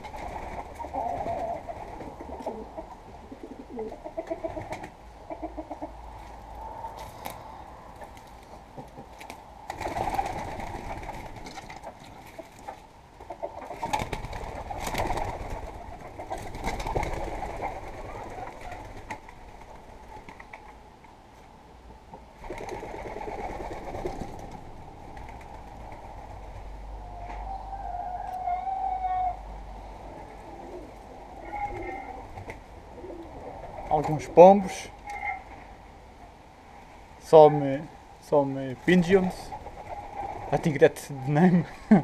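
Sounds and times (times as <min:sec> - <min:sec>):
pigeons cooing: 0:00.0 - 0:20.5, 0:22.4 - 0:35.6, 0:39.0 - 0:42.0.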